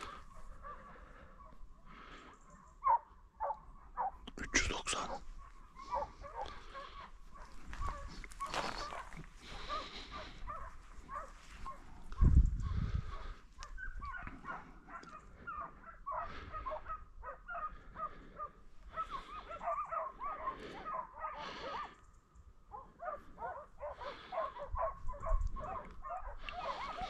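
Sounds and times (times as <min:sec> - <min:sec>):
dogs baying and yelping: 0:00.0 - 0:27.0.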